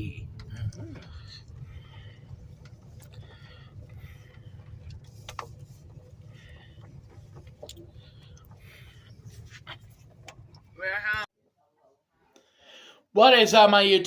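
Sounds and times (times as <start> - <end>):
vehicle interior rumble: 0.0 - 11.3.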